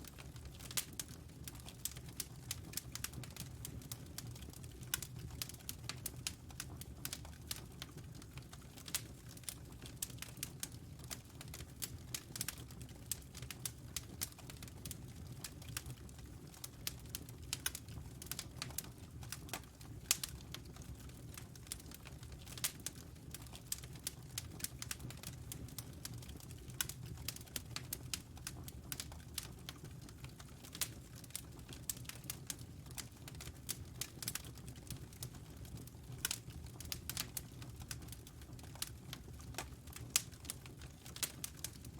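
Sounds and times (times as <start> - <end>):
wood fire burning: 0.0 - 41.9.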